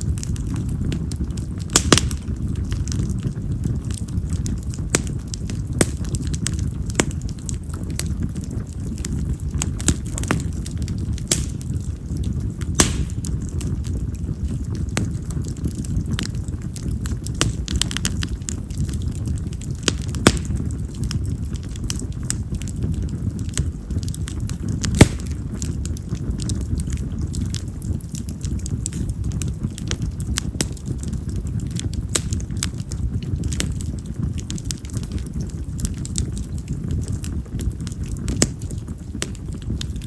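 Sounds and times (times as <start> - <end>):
loud sharp pops of fire: 0.0 - 40.0
low rumble: 0.0 - 40.0
wood fire crackling: 0.0 - 40.0.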